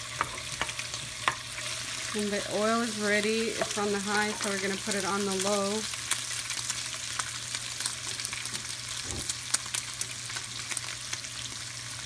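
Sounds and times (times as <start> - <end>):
bacon sizzling in frying pan: 0.0 - 12.0.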